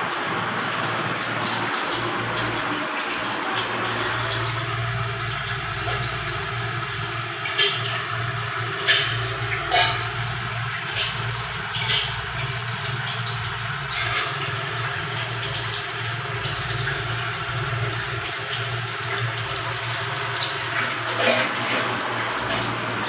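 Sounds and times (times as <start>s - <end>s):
water running and splashing: 0.0s - 23.0s.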